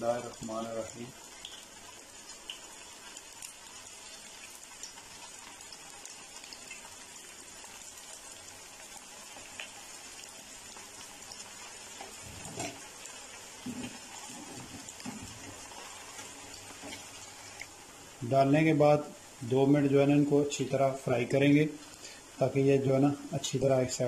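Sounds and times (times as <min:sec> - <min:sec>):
meat patties sizzling in oil: 0:00.0 - 0:24.0.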